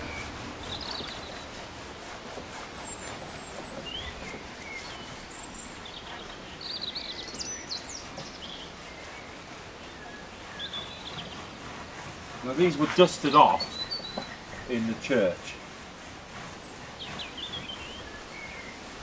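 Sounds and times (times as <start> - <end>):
birds chirping and singing: 0.0 - 19.0
outdoor background noise: 0.0 - 19.0.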